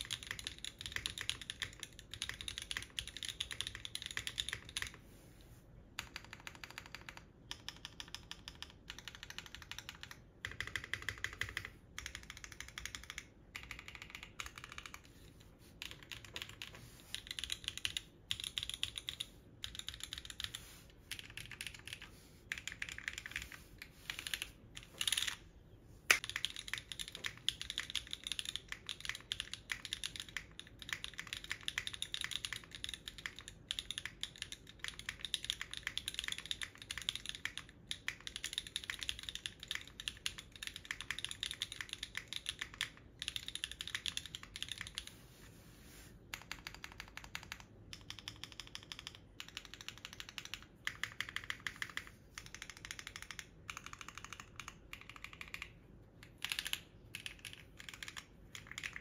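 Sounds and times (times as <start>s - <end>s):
mechanical keyboard typing: 0.0s - 5.0s, 5.9s - 15.1s, 15.8s - 25.4s, 26.1s - 45.2s, 46.3s - 59.0s.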